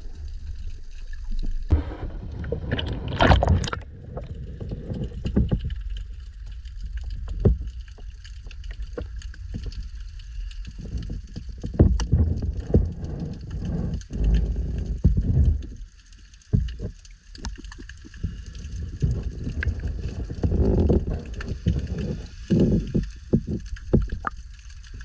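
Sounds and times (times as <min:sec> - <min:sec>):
muffled underwater sloshing: 0:00.0 - 0:25.0
faint underwater clicks: 0:00.2 - 0:25.0.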